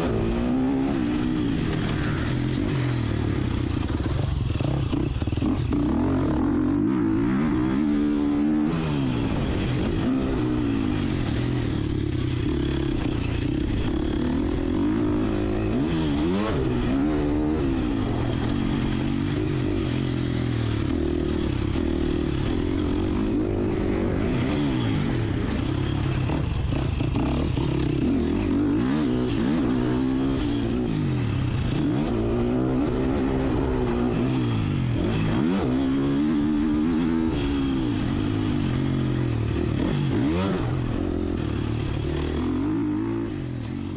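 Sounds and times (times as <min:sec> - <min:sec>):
motocross bike engine revving: 0:00.0 - 0:43.9.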